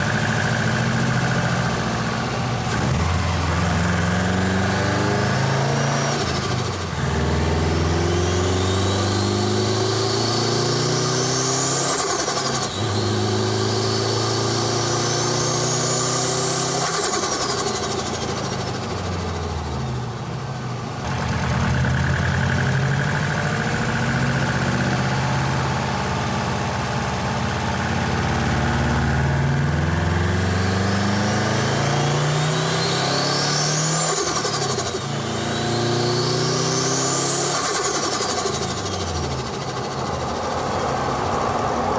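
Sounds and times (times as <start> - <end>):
car engine revving: 0.0 - 19.7, 21.0 - 41.9.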